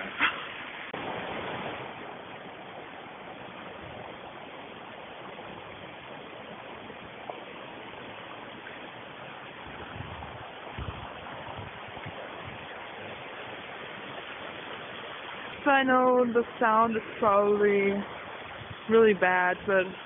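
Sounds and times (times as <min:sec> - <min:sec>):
low rumbles: 0:00.0 - 0:20.0
steady rushing noise: 0:00.0 - 0:20.0.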